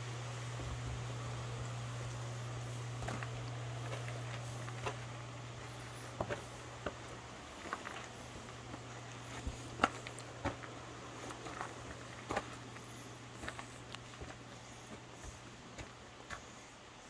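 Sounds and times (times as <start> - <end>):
steady low hum: 0.0 - 17.0
footsteps on gravel: 1.8 - 16.6.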